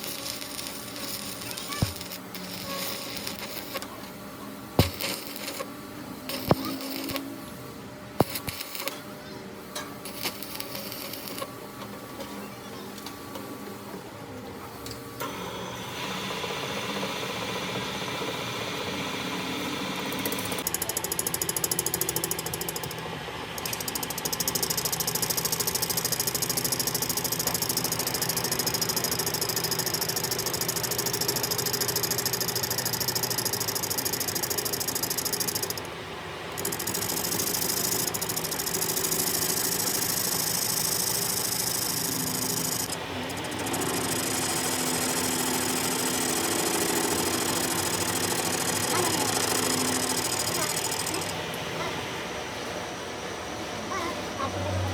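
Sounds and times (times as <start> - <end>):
metalworking machinery humming: 0.0 - 54.9.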